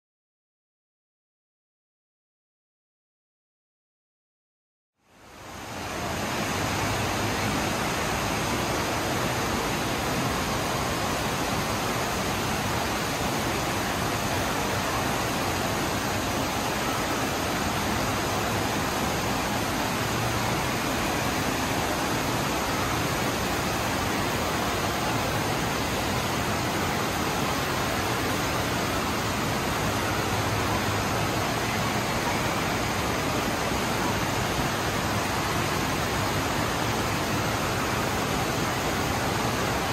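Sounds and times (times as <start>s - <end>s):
water rushing and churning: 5.2s - 39.9s.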